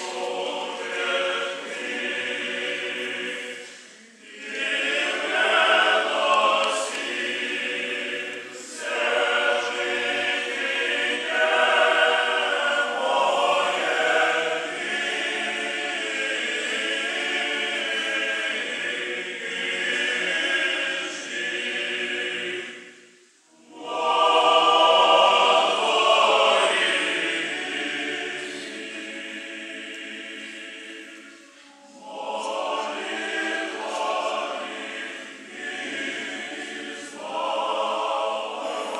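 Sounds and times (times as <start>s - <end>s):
church choir singing unaccompanied: 0.0s - 38.9s.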